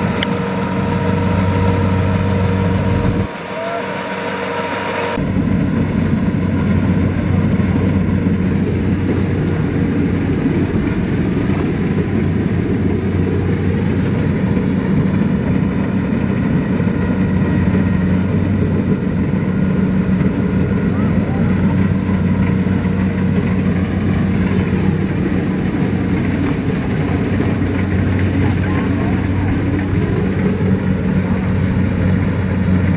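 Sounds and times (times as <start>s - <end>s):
tractor engine droning: 0.0s - 32.9s.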